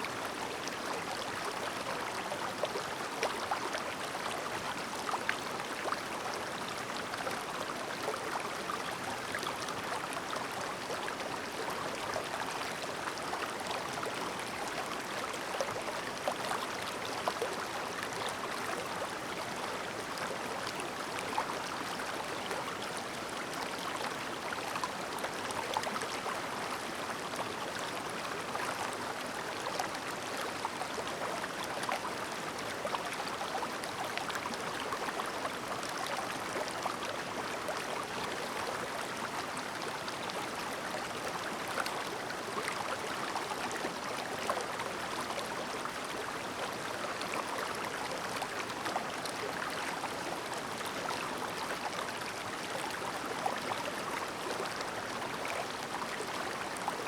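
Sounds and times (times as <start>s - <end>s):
stream babbling over stones: 0.1s - 57.0s.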